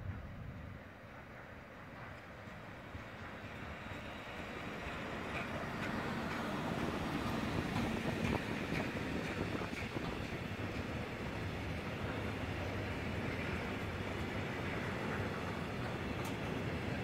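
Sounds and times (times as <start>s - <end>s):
electric locomotive passing: 0.0s - 17.0s
train wheels clicking on rails: 0.0s - 17.0s.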